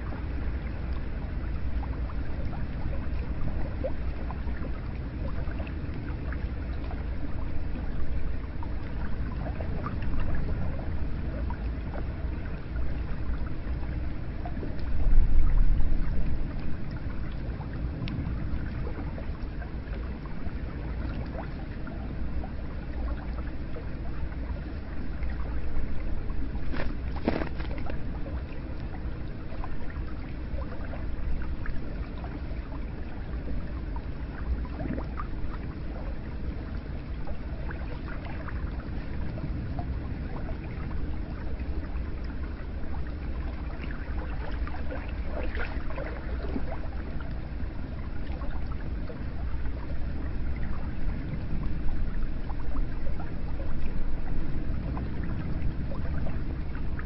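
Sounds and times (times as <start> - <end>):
water flowing steadily: 0.0 - 57.0
water splashes: 0.0 - 57.0.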